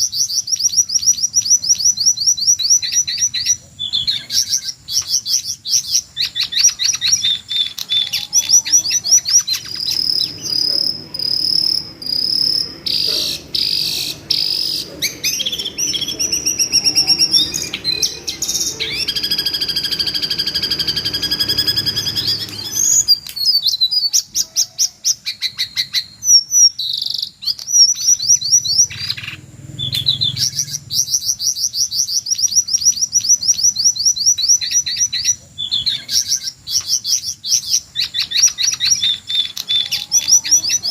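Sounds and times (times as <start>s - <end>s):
bird screaming calls and trills: 0.0s - 40.9s.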